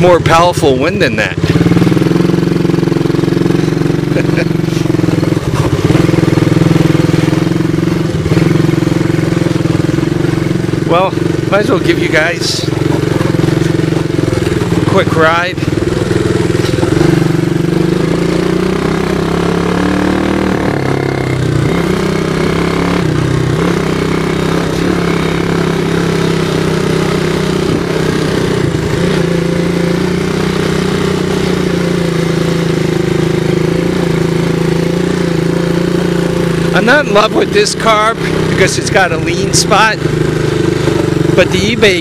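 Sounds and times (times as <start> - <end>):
atv engine running: 0.0 - 42.0.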